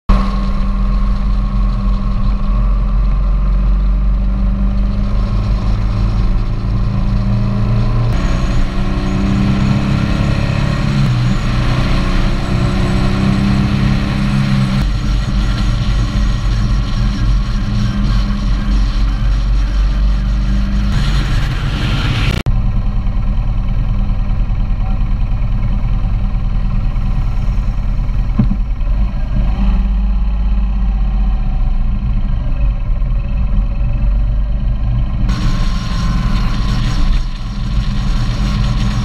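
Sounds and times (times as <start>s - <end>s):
vehicle engine running: 0.1s - 39.0s
wind and road noise: 0.1s - 39.0s.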